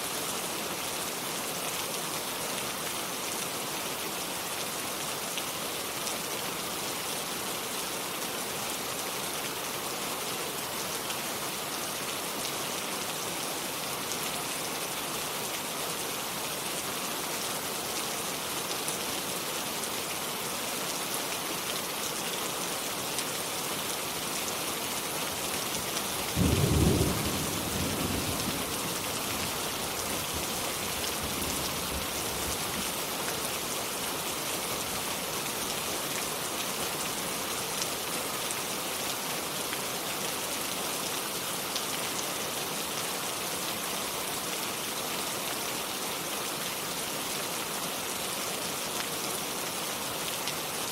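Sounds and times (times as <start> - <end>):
rain falling in a forest: 0.0 - 50.9.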